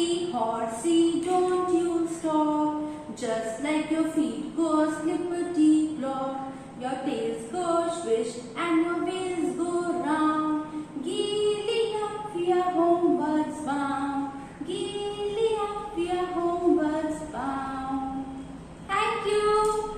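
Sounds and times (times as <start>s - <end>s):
woman singing: 0.0s - 19.9s.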